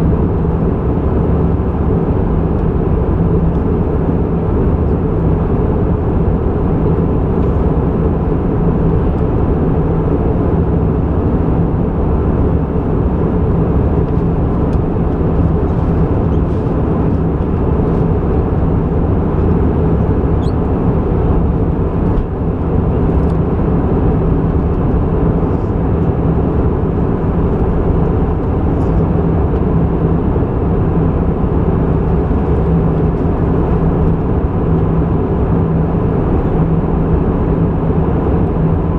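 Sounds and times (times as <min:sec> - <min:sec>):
jet engine and airflow roar: 0:00.0 - 0:38.9.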